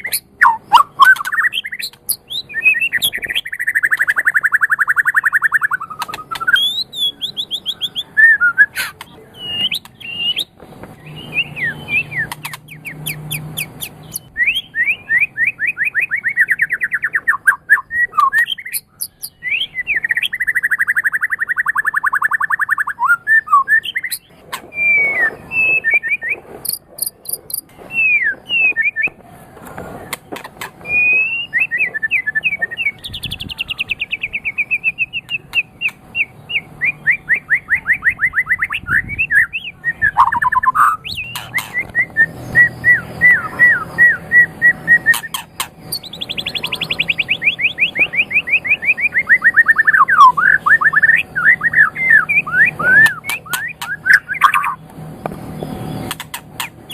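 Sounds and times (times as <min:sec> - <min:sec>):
bird singing whistled trills: 0:00.0 - 0:29.2, 0:30.8 - 0:54.8.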